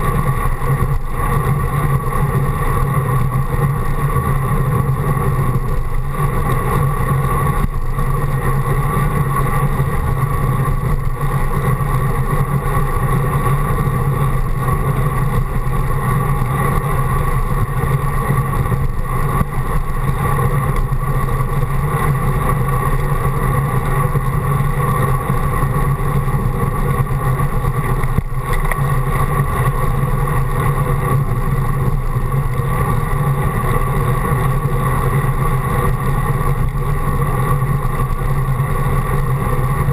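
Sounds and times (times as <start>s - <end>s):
low hum: 0.0s - 39.9s
road rumble: 0.0s - 39.9s.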